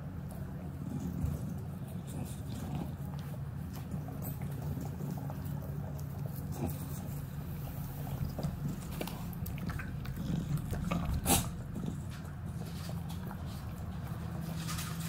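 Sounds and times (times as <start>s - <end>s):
dog chewing tomato: 0.0s - 15.0s.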